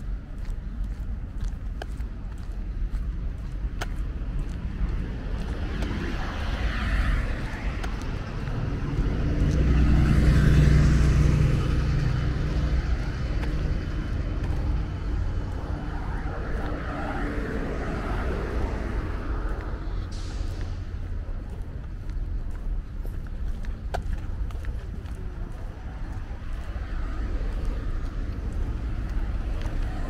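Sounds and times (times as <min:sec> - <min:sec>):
city traffic rumbling: 0:00.0 - 0:30.0
vehicle engine passing by: 0:04.3 - 0:30.0.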